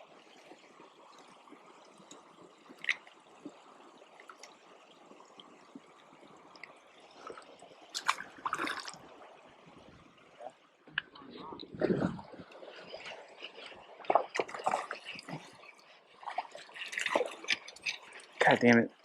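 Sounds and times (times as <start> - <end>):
creek water trickling: 0.0 - 19.0.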